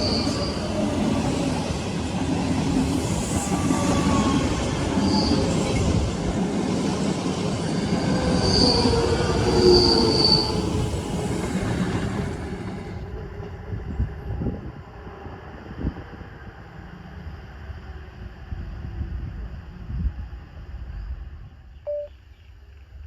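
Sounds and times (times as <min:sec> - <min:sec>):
train rumbling along track: 0:00.0 - 0:21.7.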